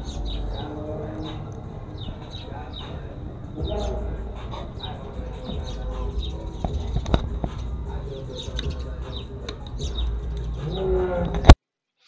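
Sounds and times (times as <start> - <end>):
small birds chirping: 0.0 - 11.5
low steady microphone rumble: 0.0 - 11.6.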